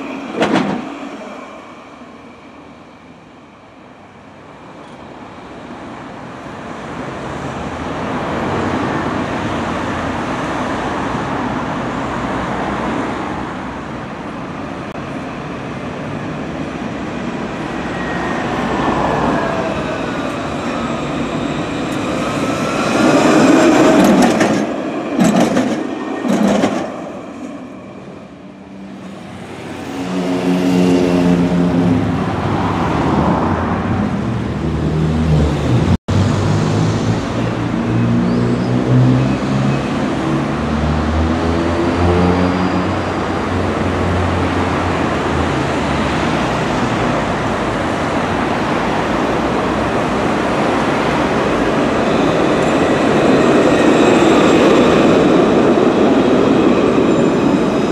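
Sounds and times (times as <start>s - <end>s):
street noise: 0.0s - 57.9s
tram passing with wheel rush: 0.0s - 57.9s.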